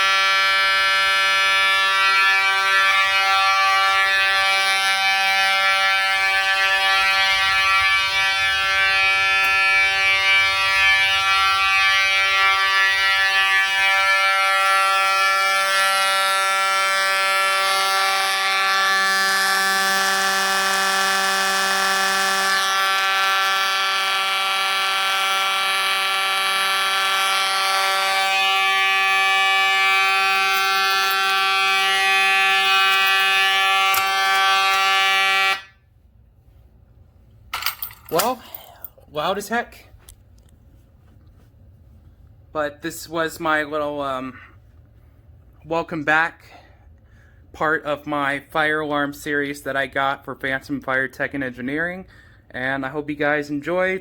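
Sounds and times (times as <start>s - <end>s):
fire alarm horn buzzing: 0.0s - 36.6s, 37.2s - 54.0s.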